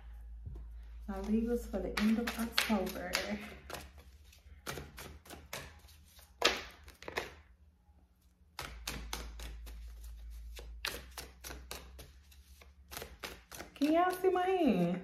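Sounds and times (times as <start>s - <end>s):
cards being shuffled: 0.6s - 7.4s, 8.6s - 15.0s.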